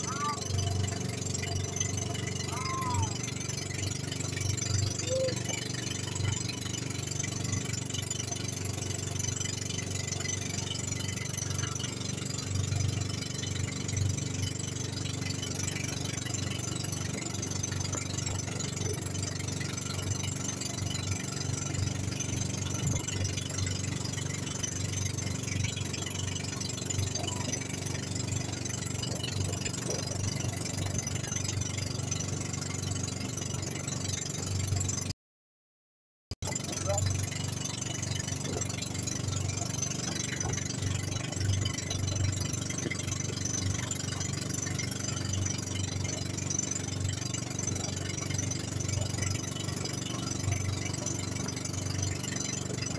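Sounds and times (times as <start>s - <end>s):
boat engine running: 0.0s - 35.1s, 36.4s - 52.9s.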